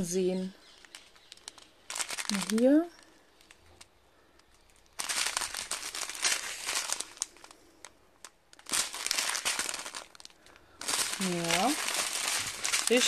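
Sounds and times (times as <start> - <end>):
plastic bags crinkling: 0.3 - 13.0.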